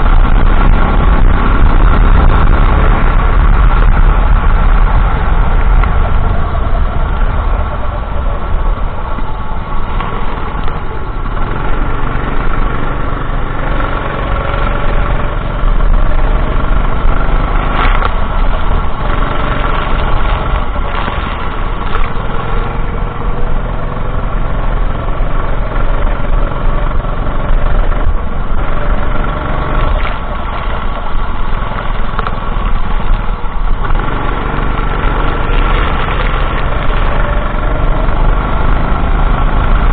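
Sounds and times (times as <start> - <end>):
go-kart engine racing: 0.0 - 39.9.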